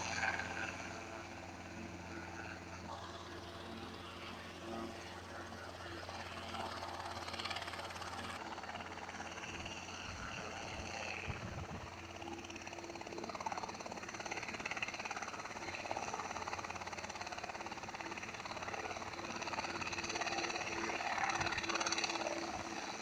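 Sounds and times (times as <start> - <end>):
helicopter rotor beating: 0.0 - 23.0.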